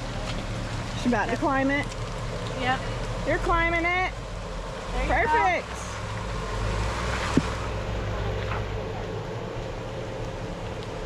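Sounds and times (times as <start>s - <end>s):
engine running at low speed: 0.0s - 11.0s.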